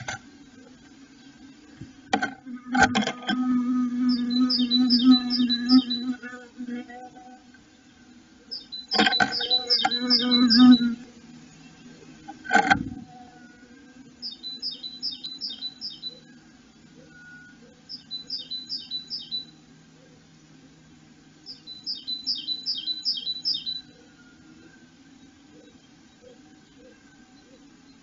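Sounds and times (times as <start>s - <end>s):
faint low hum: 0.0s - 28.0s
songbird singing: 0.0s - 28.0s.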